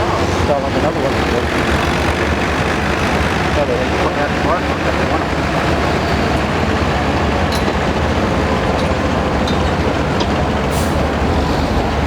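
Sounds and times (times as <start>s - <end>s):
loud tractor engine running: 0.0s - 12.0s.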